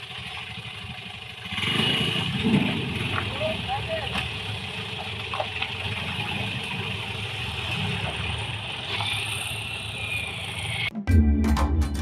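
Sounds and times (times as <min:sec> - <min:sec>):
truck engine idling: 0:00.0 - 0:10.9.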